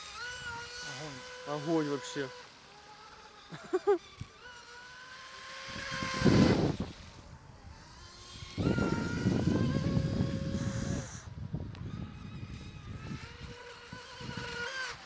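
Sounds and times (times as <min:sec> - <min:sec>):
high-pitched electric motor whine: 0:00.0 - 0:15.0.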